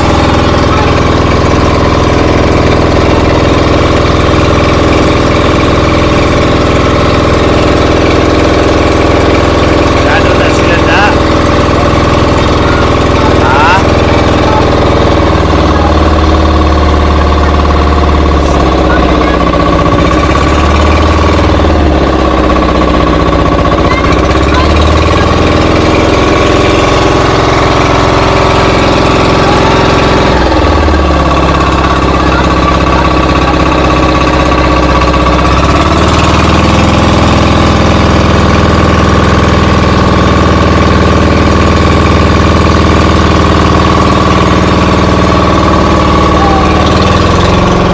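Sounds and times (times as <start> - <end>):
engine running loudly: 0.0 - 47.9.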